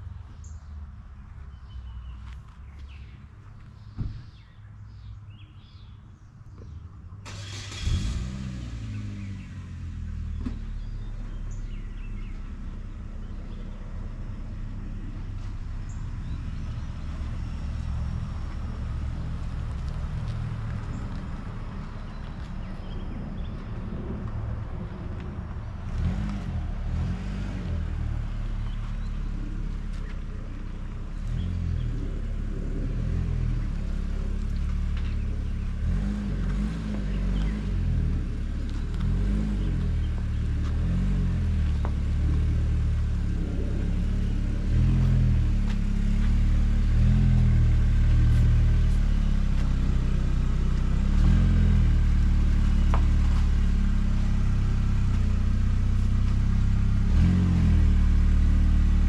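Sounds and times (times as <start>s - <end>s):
vehicle engine starting and running: 7.1s - 59.0s
low rumble: 8.0s - 59.0s
low buffeting sounds: 9.2s - 57.2s.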